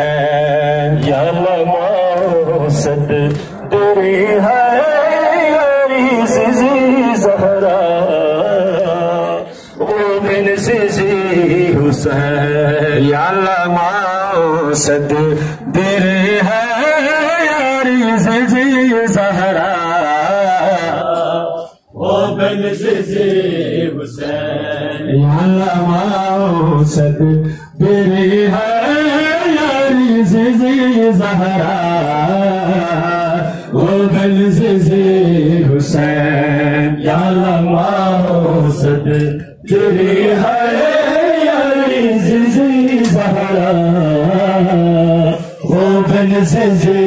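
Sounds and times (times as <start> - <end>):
men chanting a lament: 0.0 - 47.0.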